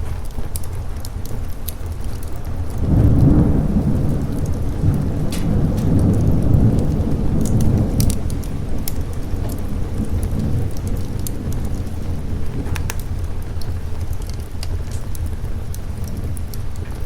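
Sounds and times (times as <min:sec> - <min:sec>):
fireplace crackling: 0:00.0 - 0:17.0
rolling thunder rumble: 0:00.0 - 0:17.0
steady rain: 0:00.0 - 0:17.0.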